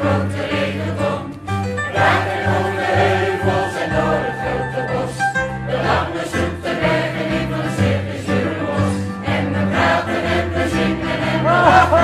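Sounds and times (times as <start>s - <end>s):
choir singing long chords: 0.0s - 12.0s.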